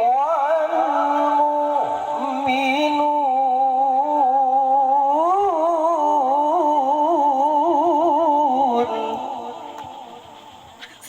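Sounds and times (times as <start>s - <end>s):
person reciting melodically: 0.0s - 11.0s.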